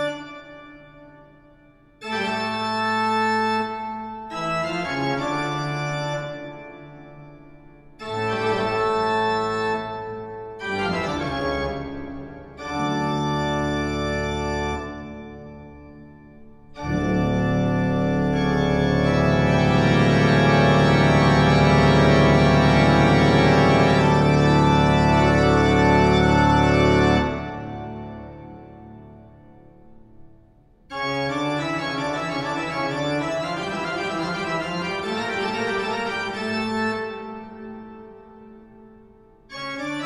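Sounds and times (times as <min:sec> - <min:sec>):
organ chords: 0:00.0 - 0:40.0.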